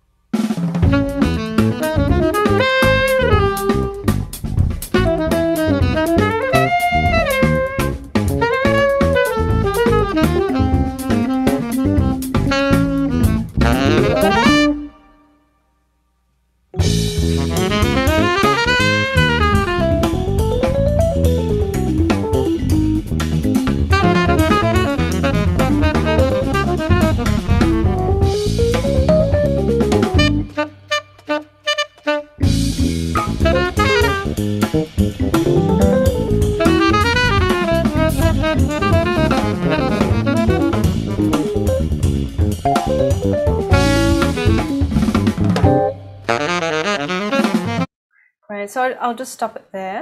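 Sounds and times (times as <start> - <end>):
small jazz band playing: 0.4 - 15.2, 16.8 - 47.9.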